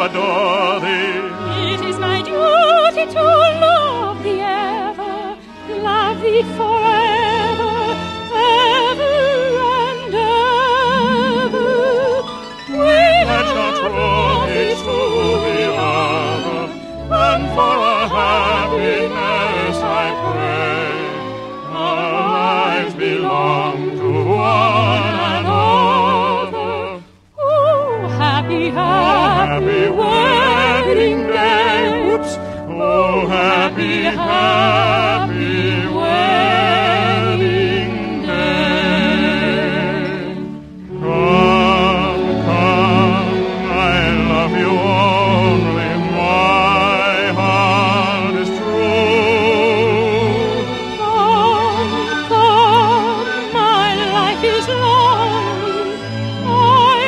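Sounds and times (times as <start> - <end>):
baritone and soprano singing: 0.0 - 57.0
orchestral accompaniment: 0.0 - 57.0.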